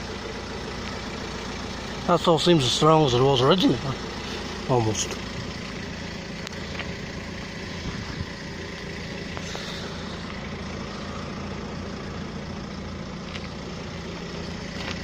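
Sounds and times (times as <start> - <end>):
van engine idling: 0.0 - 15.0.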